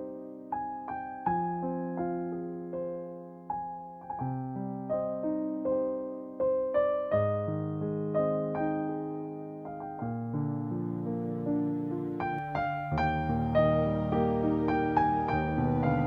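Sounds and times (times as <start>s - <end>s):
soft solo piano: 0.0s - 16.0s.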